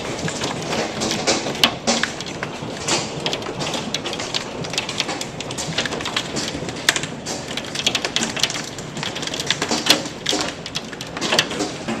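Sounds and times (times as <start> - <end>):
hailstones clattering on hard surfaces: 0.0 - 12.0.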